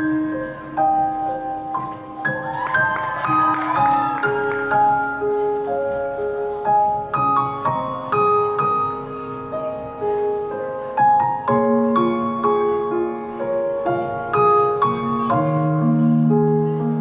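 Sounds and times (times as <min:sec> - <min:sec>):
slow piano-like keyboard melody: 0:00.0 - 0:17.0.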